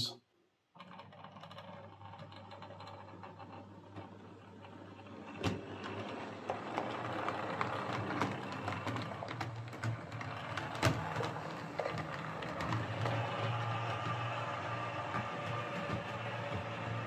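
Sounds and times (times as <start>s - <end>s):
wheels clicking on rails: 0.8s - 17.0s.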